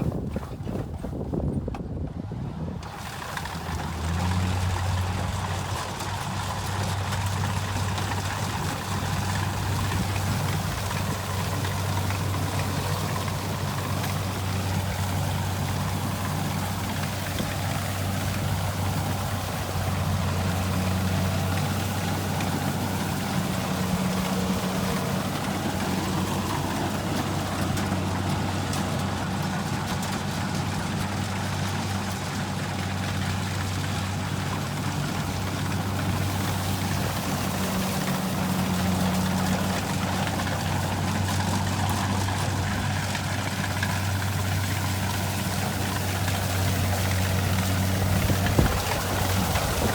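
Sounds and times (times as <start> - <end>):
combine harvester diesel engine: 0.0 - 49.9.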